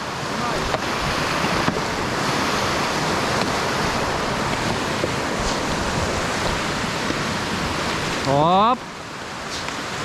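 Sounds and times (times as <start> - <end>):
snow hissing: 0.0 - 8.1, 9.3 - 10.0
wind buffeting microphone: 0.0 - 8.3.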